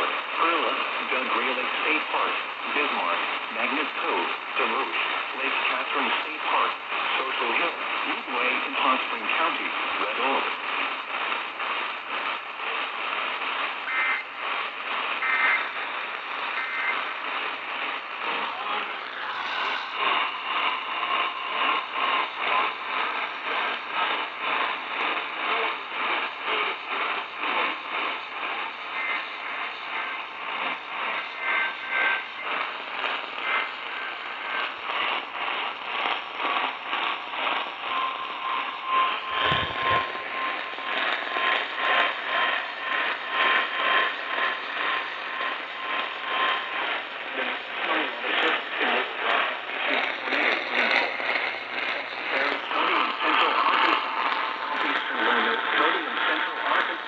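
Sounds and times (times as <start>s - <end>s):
pulsing radio interference: 0.0s - 57.0s
radio static hiss and crackle: 0.0s - 57.0s.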